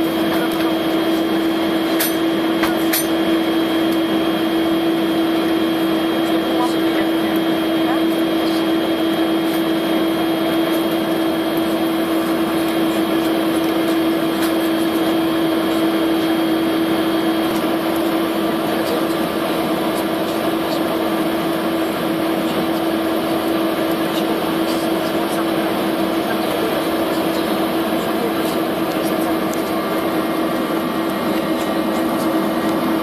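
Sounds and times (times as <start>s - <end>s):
airliner engine hum in cabin: 0.0s - 33.0s.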